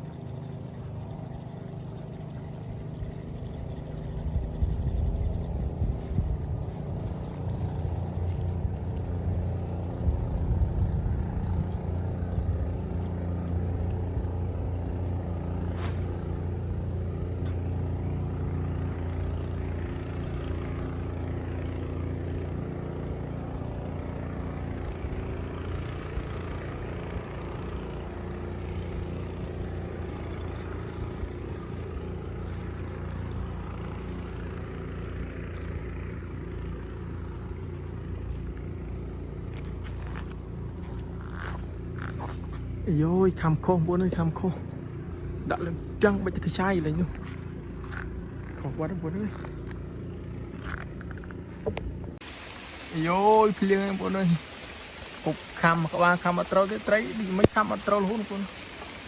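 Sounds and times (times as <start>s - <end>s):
engine droning: 0.0s - 59.0s.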